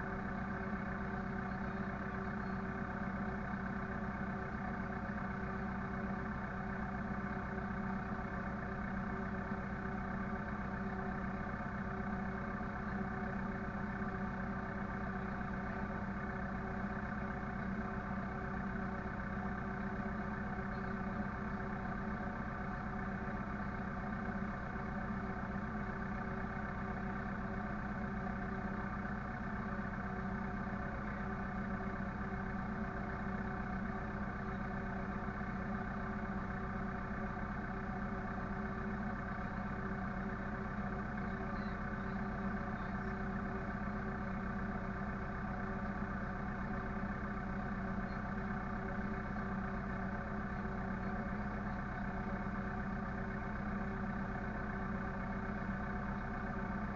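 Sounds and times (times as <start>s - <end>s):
engine humming steadily: 0.0s - 56.9s.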